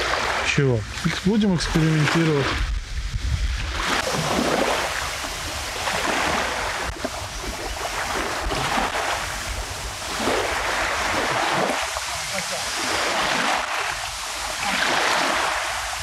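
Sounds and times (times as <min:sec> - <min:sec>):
waves rushing: 0:00.0 - 0:16.0
wind buffeting microphone: 0:00.0 - 0:16.0.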